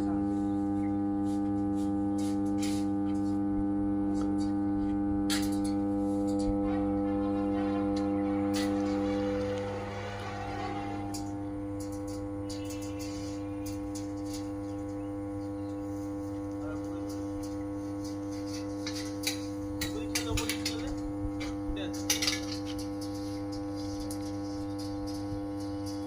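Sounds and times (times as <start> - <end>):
transformer humming: 2.3 - 26.0.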